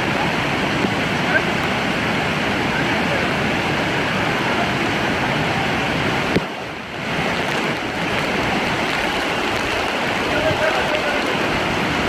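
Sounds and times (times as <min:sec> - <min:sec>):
rushing water of a stream: 0:00.0 - 0:12.0.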